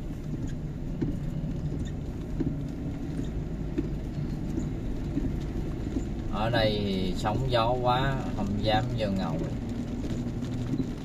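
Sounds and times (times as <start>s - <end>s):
car driving on wet road: 0.0s - 11.0s.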